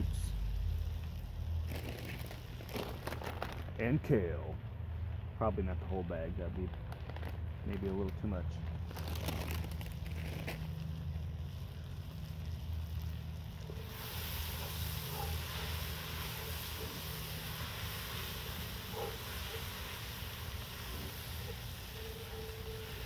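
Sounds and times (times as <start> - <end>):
broth sizzling in hot pot: 0.0 - 3.9, 6.3 - 23.0.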